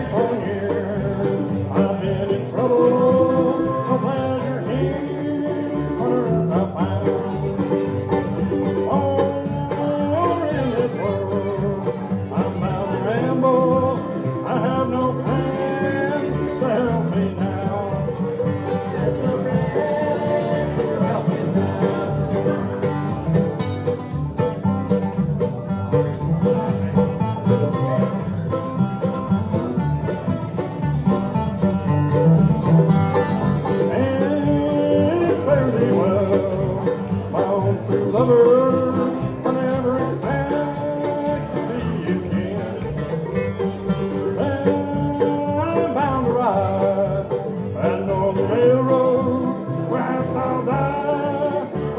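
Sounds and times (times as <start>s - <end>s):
person singing: 0.0s - 23.2s, 33.4s - 51.9s
banjo and guitar picking: 0.0s - 51.9s
bluegrass band playing: 0.0s - 51.9s.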